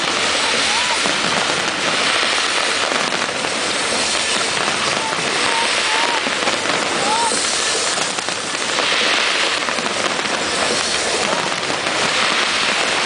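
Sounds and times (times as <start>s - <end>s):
firework whistles: 0.0s - 13.0s
fireworks crackling: 0.0s - 13.0s.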